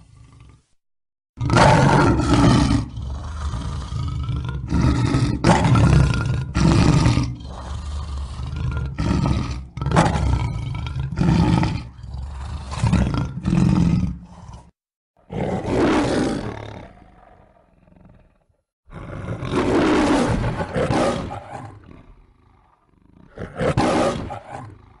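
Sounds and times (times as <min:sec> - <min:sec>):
lion roaring: 0:00.0 - 0:00.8, 0:01.4 - 0:25.0.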